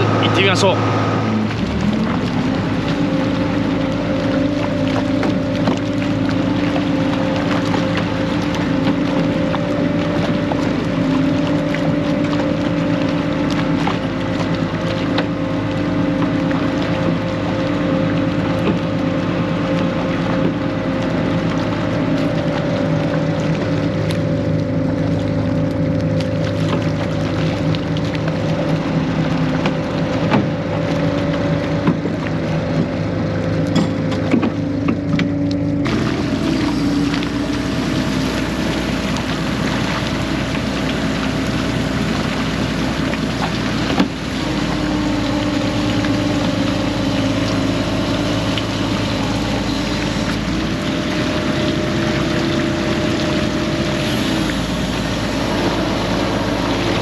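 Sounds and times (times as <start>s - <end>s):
boat engine running: 0.0s - 57.0s
rush of water and wind: 0.0s - 57.0s.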